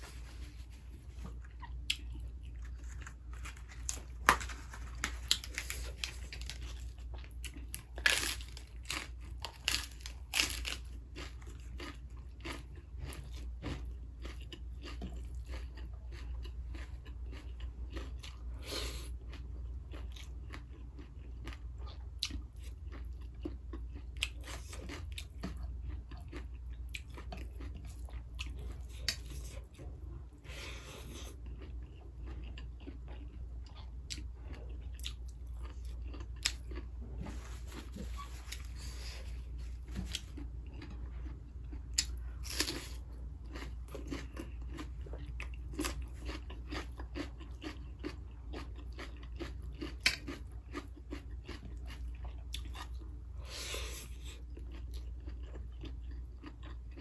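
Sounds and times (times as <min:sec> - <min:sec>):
chewing crunchy food: 0:00.0 - 0:57.0.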